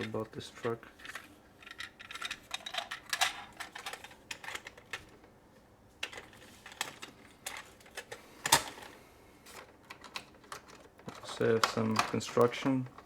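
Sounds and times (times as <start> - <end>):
plastic toys clicking and tapping: 0.0 - 5.2, 6.0 - 8.9, 9.5 - 13.0.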